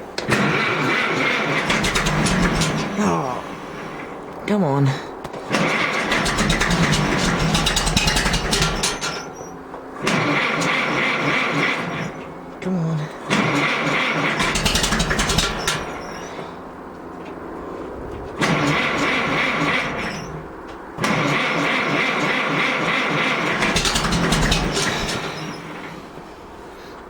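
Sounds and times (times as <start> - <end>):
engine cranked by starter: 0.0 - 4.4, 5.2 - 27.0.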